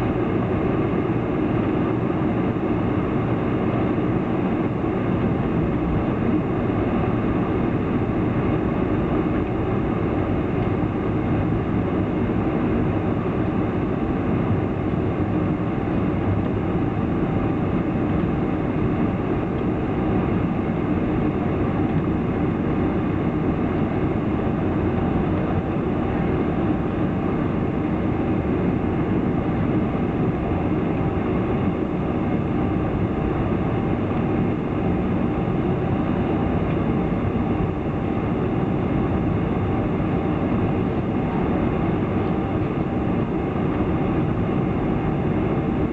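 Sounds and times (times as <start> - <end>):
jet engines rumbling in cabin: 0.0 - 45.9.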